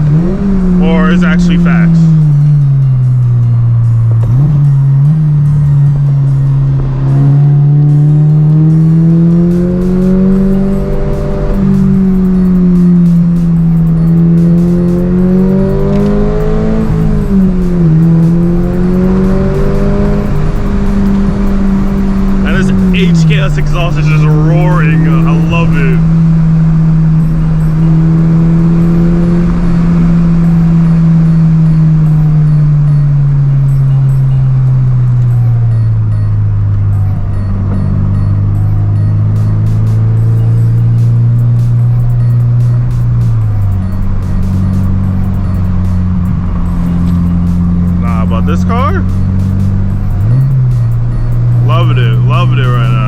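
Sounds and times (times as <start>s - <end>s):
car engine pulling under load: 0.0s - 53.0s.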